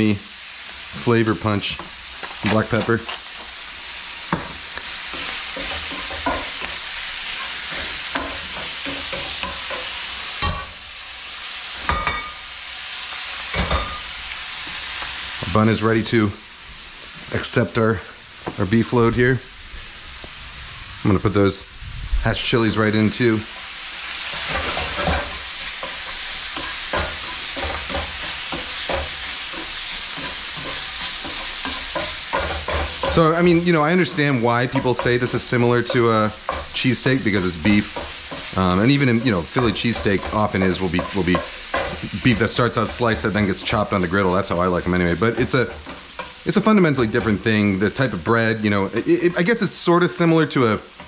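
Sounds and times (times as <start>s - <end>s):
meat and onions sizzling: 0.0s - 51.0s
spatula scraping skillet: 0.4s - 15.5s, 22.6s - 51.0s.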